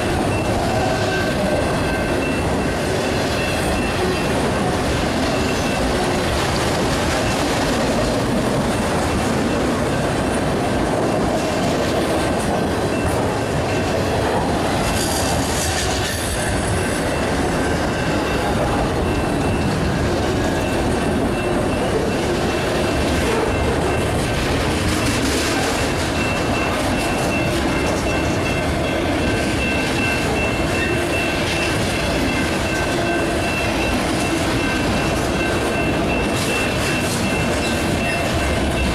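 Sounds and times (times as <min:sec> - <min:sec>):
rail clicks: 0:00.0 - 0:38.9
train wheels rumbling on rail: 0:00.0 - 0:38.9.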